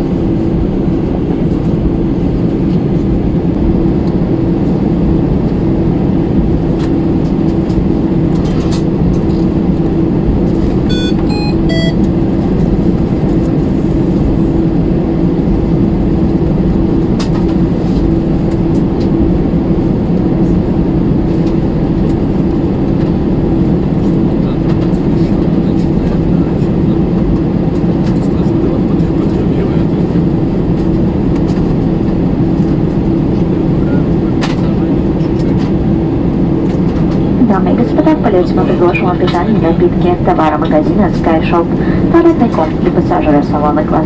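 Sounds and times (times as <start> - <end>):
engine and cabin air drone: 0.0 - 44.0.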